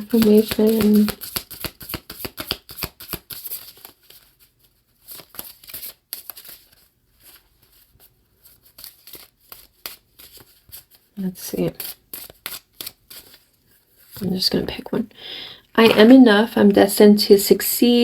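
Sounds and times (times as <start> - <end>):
cards being shuffled: 0.0 - 14.5.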